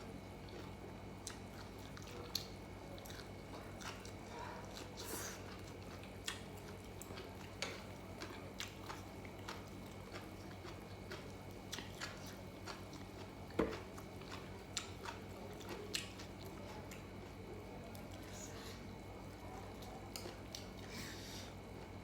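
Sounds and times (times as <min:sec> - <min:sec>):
steady low hum: 0:00.0 - 0:22.0
person chewing food: 0:00.4 - 0:22.0.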